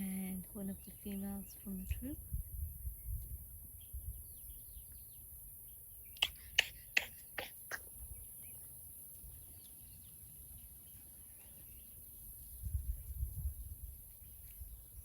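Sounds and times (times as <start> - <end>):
faint bird chirps: 0.1 - 13.2.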